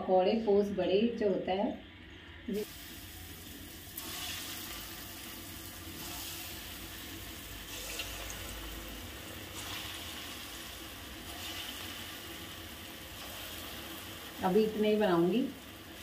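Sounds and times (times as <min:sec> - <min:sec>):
batter sizzling in hot oil: 0:02.6 - 0:16.0.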